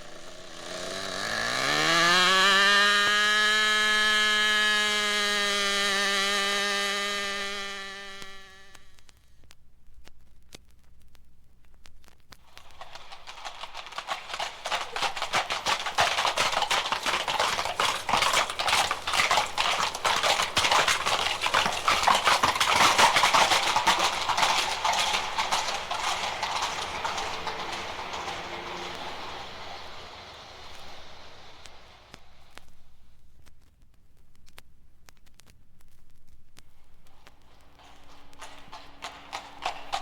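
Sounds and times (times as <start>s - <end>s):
horses' hooves clip-clopping: 0.0s - 9.1s, 12.3s - 40.0s.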